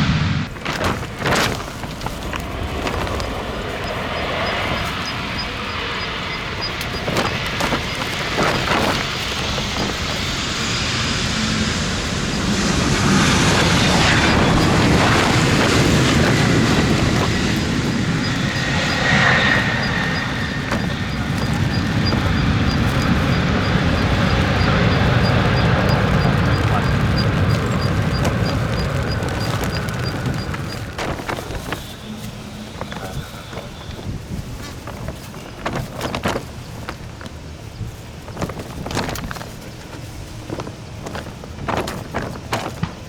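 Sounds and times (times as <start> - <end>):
jet engines rumbling: 0.0 - 43.0
wind buffeting microphone: 0.0 - 43.0.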